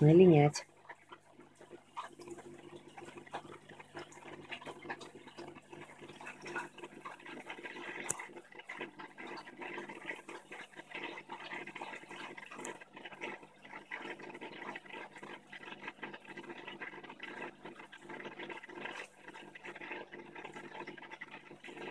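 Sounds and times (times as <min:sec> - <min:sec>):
aquarium water bubbling: 0:00.0 - 0:21.9.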